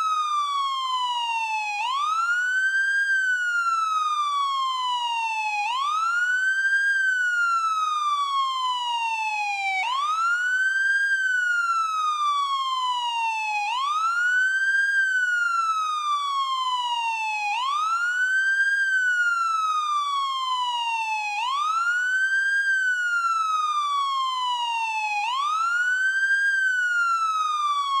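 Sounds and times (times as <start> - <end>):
police siren wailing: 0.0 - 28.0.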